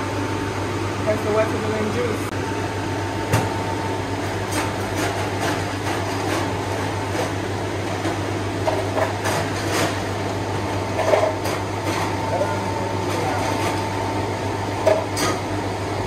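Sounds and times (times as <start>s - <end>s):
machinery hum and whir: 0.0s - 16.0s.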